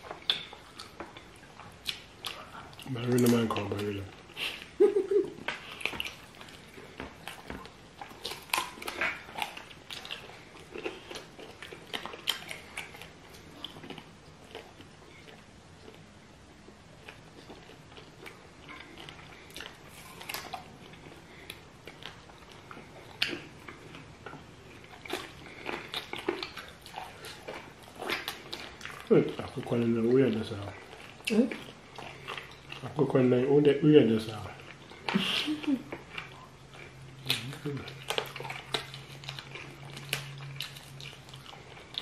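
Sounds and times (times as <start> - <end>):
wet chewing mouth clicks and smacks: 0.0 - 4.8, 5.4 - 16.0, 17.0 - 33.0, 34.2 - 42.0.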